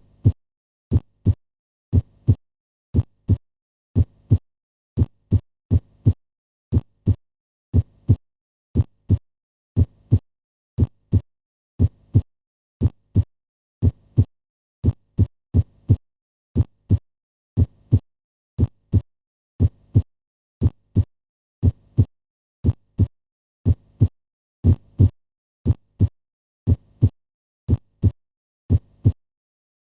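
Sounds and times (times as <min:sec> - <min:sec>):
heartbeat lub-dub: 0:00.1 - 0:03.4, 0:04.0 - 0:04.4, 0:05.0 - 0:08.2, 0:08.8 - 0:09.2, 0:09.8 - 0:10.2, 0:10.8 - 0:16.0, 0:16.6 - 0:17.0, 0:17.6 - 0:18.0, 0:18.6 - 0:29.2.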